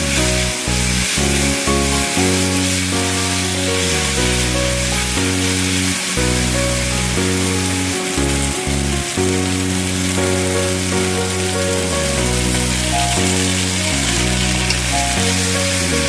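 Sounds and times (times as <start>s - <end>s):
background music with bass line: 0.0s - 16.0s
food sizzling in a wok: 0.1s - 16.0s.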